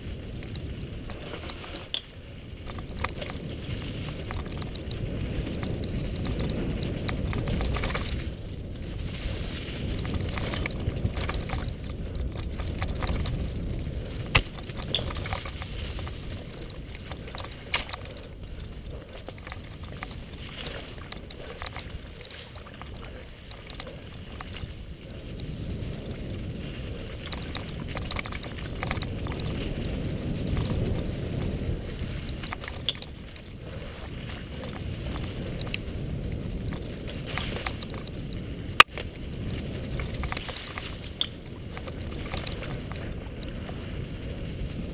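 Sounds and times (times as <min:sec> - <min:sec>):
bike knocking on bumps: 0:00.0 - 0:43.9
bike rattle: 0:00.0 - 0:44.9
tyres rolling over dry leaves: 0:00.0 - 0:44.9
wind rumble on microphone: 0:00.0 - 0:44.9.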